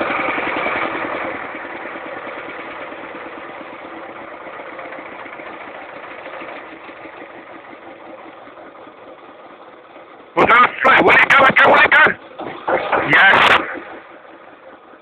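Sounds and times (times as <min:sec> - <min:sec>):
diesel generator engine running: 0:00.0 - 0:15.0.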